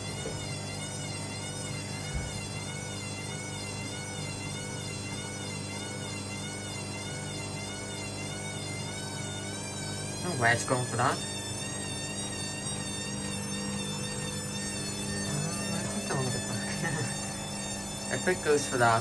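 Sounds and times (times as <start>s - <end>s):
steady low hum: 0.0s - 19.0s
washing machine motor whining: 0.0s - 19.0s.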